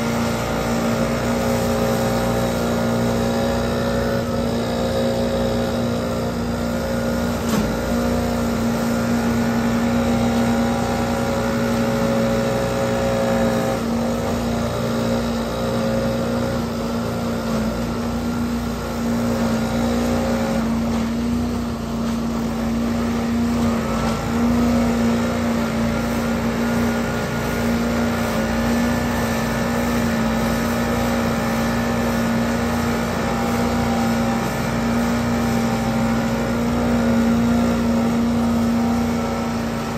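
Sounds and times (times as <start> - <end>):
leaf vacuum running: 0.0 - 39.9.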